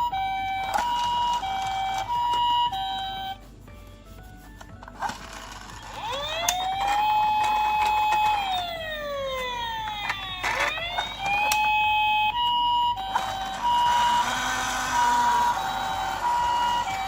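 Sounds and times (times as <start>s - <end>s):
toy electronic siren wailing: 0.0s - 3.5s, 5.0s - 17.0s.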